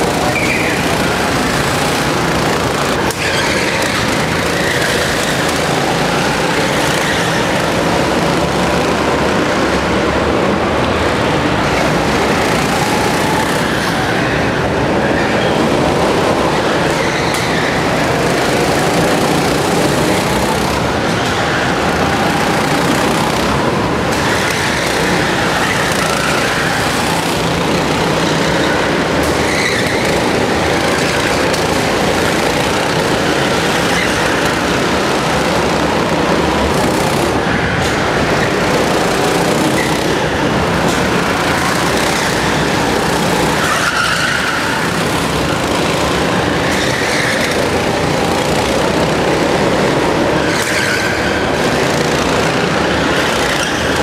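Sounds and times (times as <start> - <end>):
go-kart engines running: 0.0 - 54.0.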